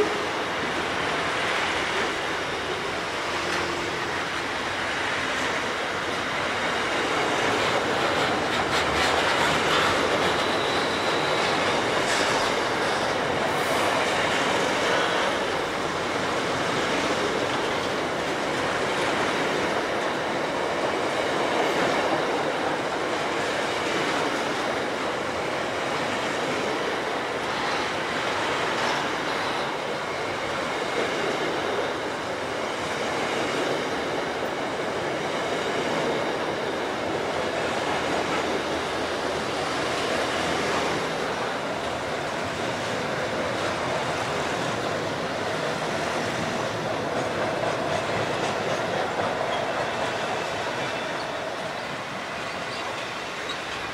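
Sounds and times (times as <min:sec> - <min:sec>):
freight train rumbling past: 0:00.0 - 0:53.9
wheels clattering on rails: 0:00.0 - 0:53.9.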